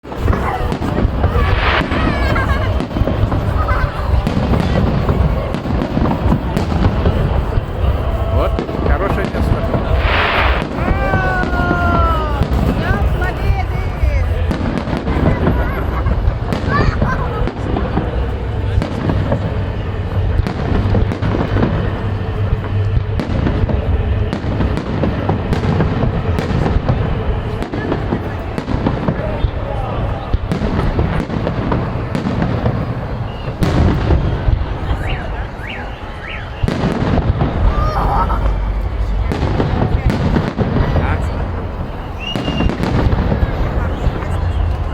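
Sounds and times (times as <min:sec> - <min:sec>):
low rumble: 0:00.0 - 0:35.6, 0:36.8 - 0:44.9
fireworks booming and crackling: 0:00.0 - 0:44.9.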